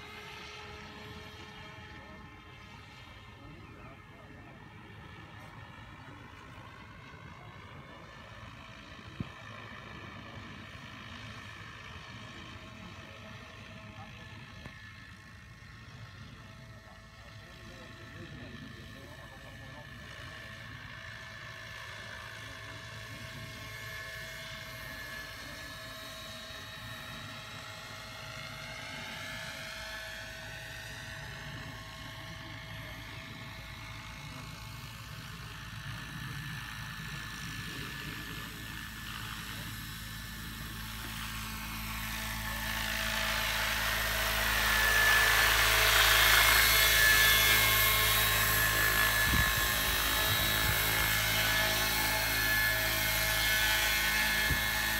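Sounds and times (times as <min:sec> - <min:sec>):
model helicopter high-pitched whine: 0:00.0 - 0:54.9.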